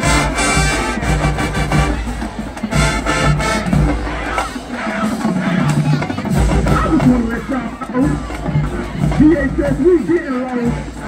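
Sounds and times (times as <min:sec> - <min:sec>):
drumline: 0:00.0 - 0:11.0
marching band brass: 0:00.0 - 0:11.0.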